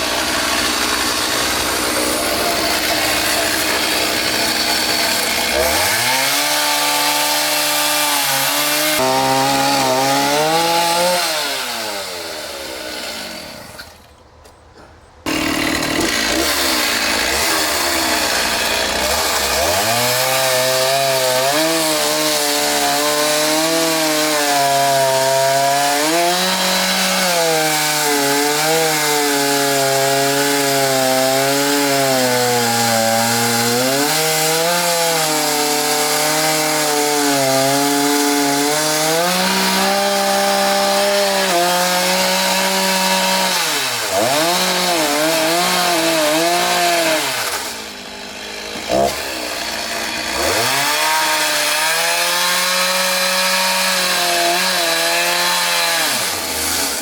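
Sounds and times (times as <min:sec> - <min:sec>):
chainsaw revving and cutting wood: 0:00.0 - 0:14.0, 0:15.2 - 0:57.0.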